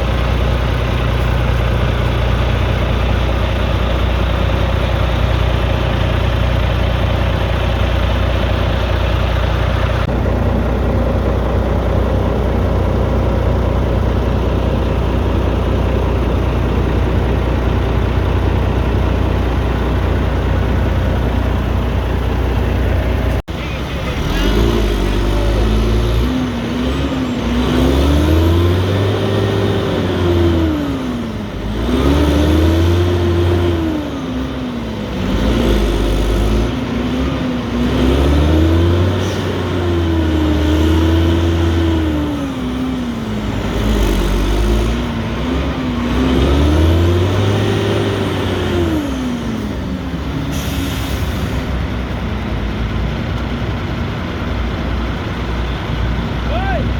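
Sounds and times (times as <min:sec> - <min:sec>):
truck diesel engine revving: 0:00.0 - 0:56.9.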